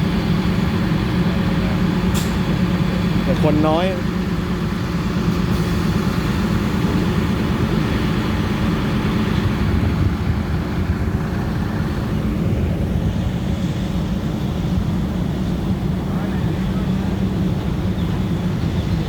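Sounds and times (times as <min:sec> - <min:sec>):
train engine drone: 0:00.0 - 0:19.0
wheels rumbling on track: 0:00.0 - 0:19.0.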